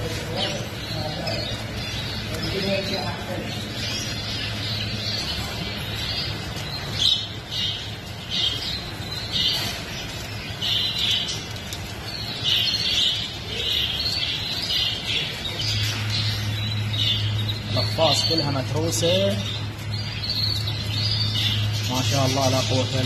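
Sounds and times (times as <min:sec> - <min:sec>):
canaries chirping: 0:00.0 - 0:23.0
steady low hum: 0:00.0 - 0:23.0.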